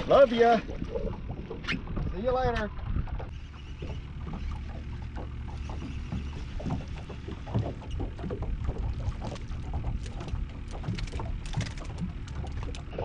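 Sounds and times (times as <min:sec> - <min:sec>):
short splashes: 0:00.0 - 0:13.0
water lapping against boat hull: 0:00.0 - 0:13.0.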